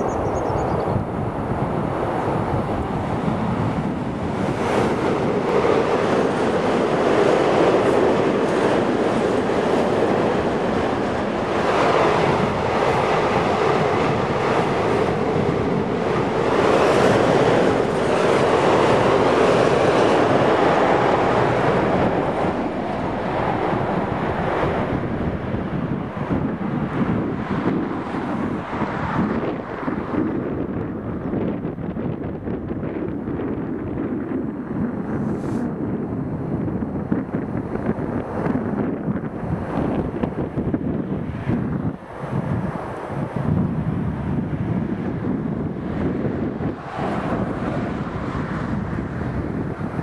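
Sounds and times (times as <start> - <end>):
freight train wheels rumbling: 0.0 - 50.0
wind buffeting microphone: 0.0 - 50.0.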